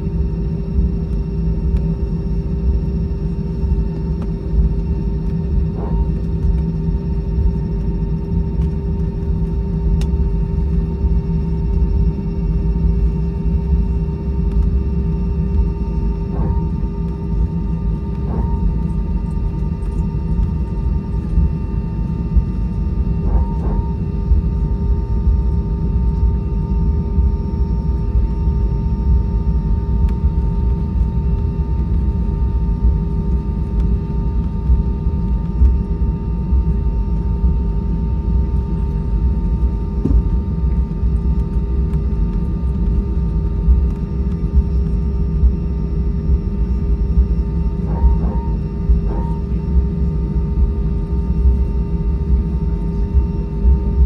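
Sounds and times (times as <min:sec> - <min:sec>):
aircraft cabin low rumble: 0:00.0 - 0:54.0
engine and systems hum: 0:00.0 - 0:54.0.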